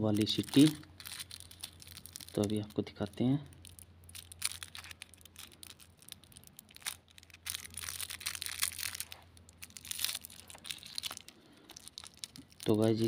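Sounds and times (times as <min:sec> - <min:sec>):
plastic crinkling: 0:00.0 - 0:13.0.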